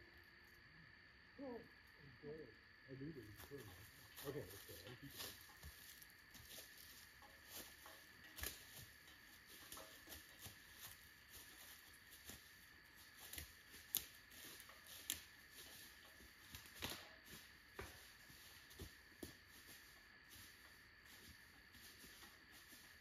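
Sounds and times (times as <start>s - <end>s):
footsteps crunching dry leaves: 3.4s - 23.0s.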